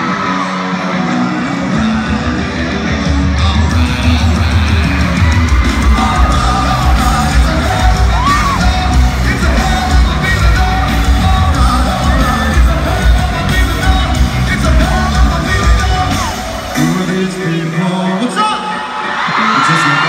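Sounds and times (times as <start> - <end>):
crowd yelling and whooping: 0.0 - 20.0
live rock band playing: 0.0 - 20.0.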